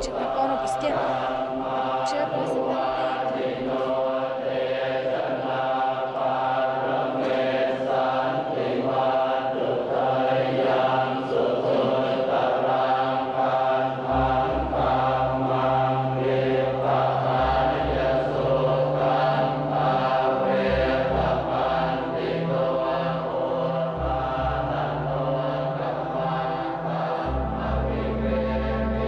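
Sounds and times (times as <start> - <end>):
monks chanting in unison: 0.0 - 29.0.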